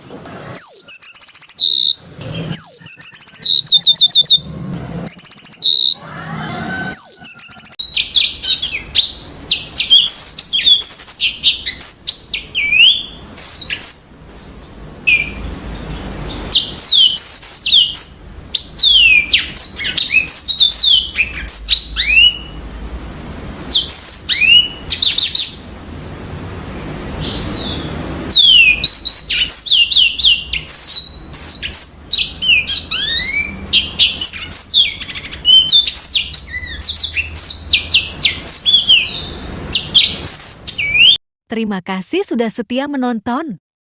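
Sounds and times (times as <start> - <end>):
canary singing: 0.0 - 22.8, 23.6 - 26.2, 26.8 - 41.2.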